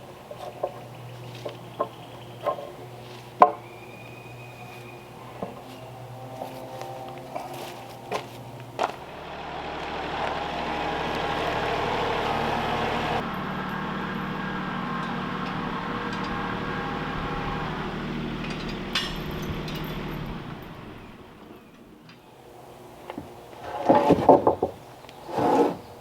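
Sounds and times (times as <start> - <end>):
engine running steadily: 0.0 - 24.6.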